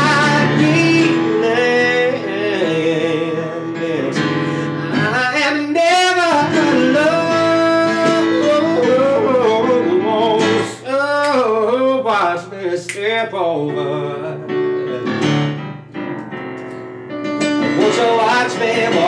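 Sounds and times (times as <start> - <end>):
man singing: 0.0 - 15.5, 17.6 - 19.0
instrumental backing: 0.0 - 19.0.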